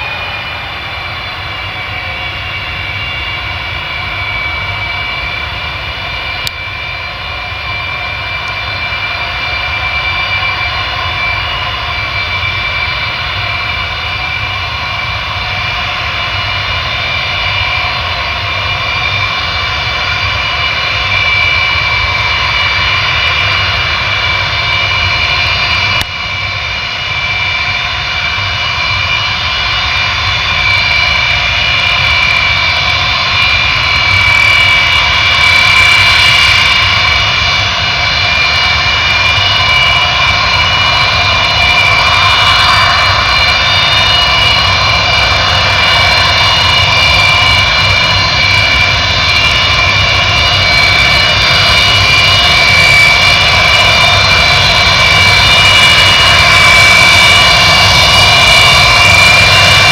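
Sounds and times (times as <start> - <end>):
jet engines whining over rumble: 0.0 - 59.9.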